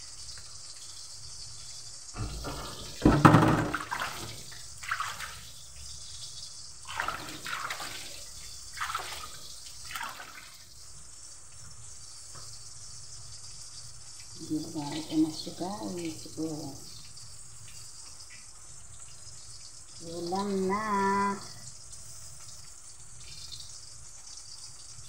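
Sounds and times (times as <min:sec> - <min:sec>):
hot oil sizzling in a wok: 0:00.0 - 0:25.0.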